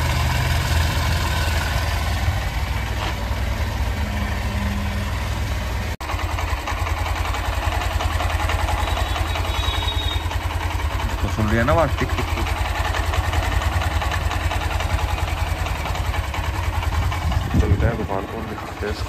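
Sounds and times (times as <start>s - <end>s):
motorcycle engine idling with ticking: 0.0s - 4.4s, 5.0s - 19.0s.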